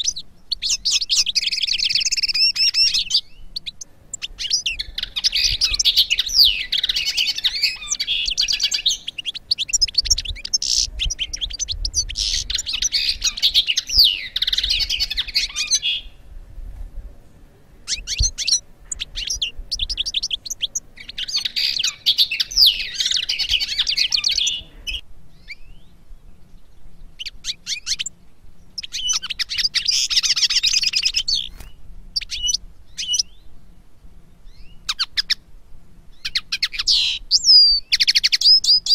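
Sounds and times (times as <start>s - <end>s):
finch twittering song: 0.0s - 16.2s, 17.8s - 33.6s, 34.4s - 35.4s, 36.1s - 38.9s.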